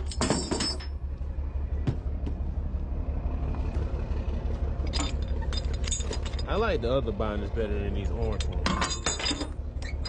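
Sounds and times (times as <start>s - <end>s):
diesel truck engine idling: 0.9s - 10.0s.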